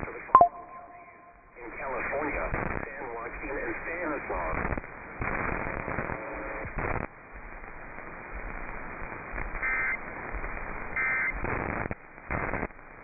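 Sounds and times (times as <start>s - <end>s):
radio static hiss: 0.0s - 0.3s, 1.6s - 13.0s.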